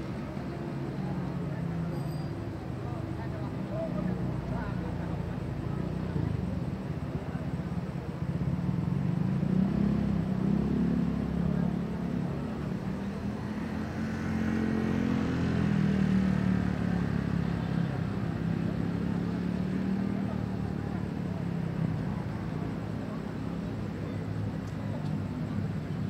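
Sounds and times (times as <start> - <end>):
car and motorbike engines passing: 0.0 - 26.0.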